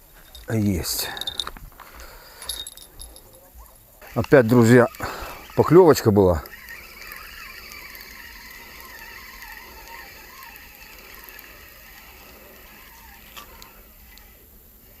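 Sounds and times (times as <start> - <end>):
fishing reel winding: 0.3 - 1.5, 2.4 - 3.4, 4.0 - 14.4.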